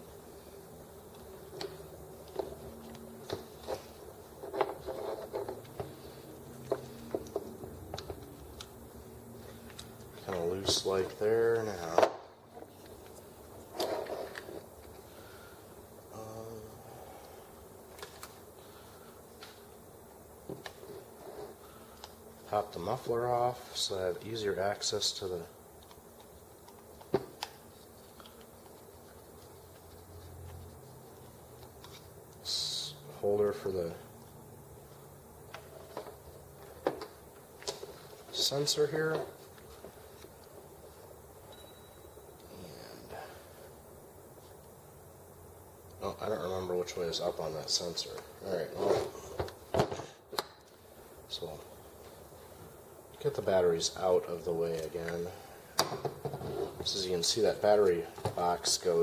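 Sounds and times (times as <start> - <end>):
faint low hum: 0.0 - 59.0.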